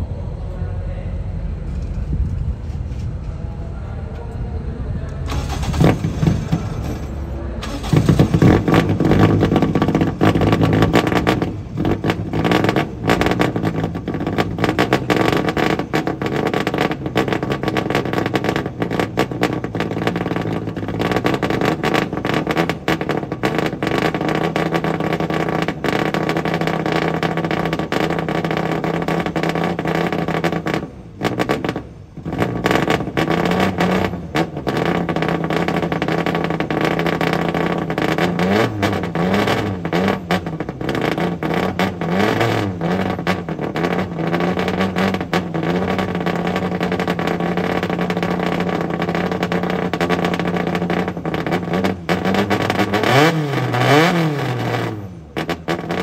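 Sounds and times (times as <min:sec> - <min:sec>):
race car engine starting up: 0:00.0 - 0:56.0
engine idling roughly with revs: 0:05.3 - 0:56.0.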